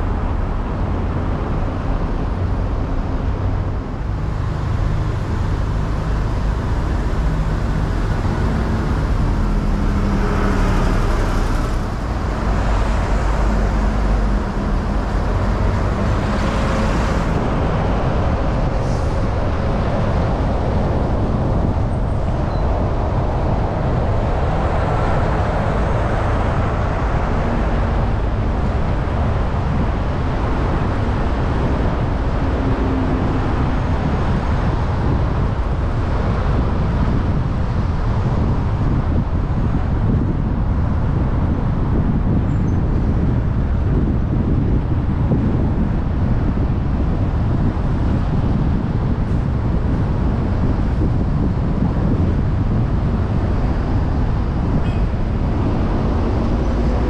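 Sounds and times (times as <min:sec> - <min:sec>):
tyre and engine rumble: 0:00.0 - 0:57.0.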